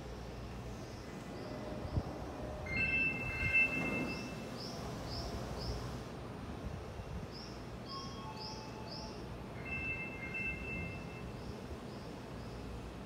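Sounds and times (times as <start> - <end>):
train low hum: 0.0 - 13.0.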